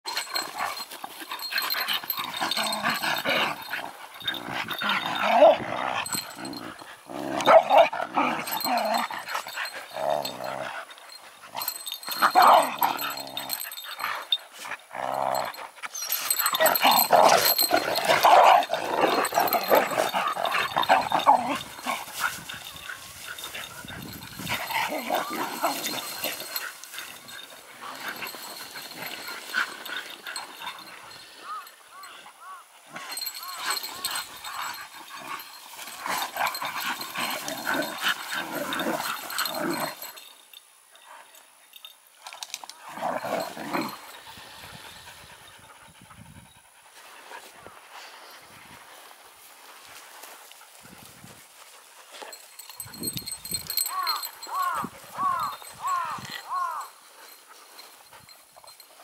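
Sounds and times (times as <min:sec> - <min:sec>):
dogs growling: 0:00.1 - 0:32.2, 0:32.8 - 0:40.3, 0:42.8 - 0:45.5, 0:52.2 - 0:58.9.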